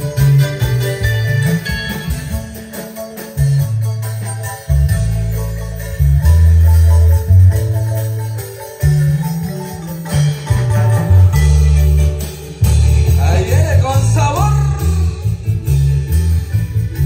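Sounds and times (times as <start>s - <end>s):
deep bass line: 0.0s - 17.0s
jingling tambourine-like percussion: 0.0s - 17.0s
keyboard melody: 0.0s - 17.0s
live dance band playing: 0.0s - 17.0s.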